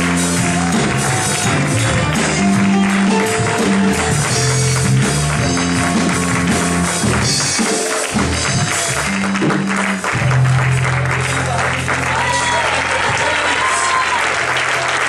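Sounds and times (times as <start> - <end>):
held bass notes: 0.0 - 13.2
choir clapping: 0.0 - 15.0.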